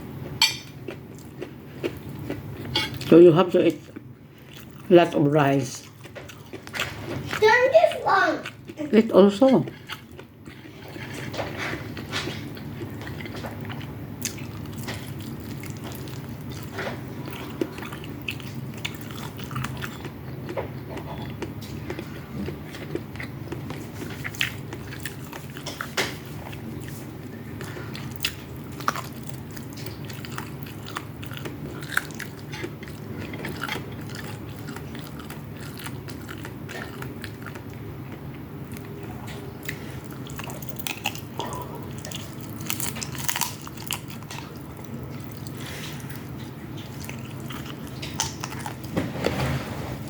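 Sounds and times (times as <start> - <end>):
steady low hum: 0.0 - 50.0
chewing and biting food: 0.2 - 49.0.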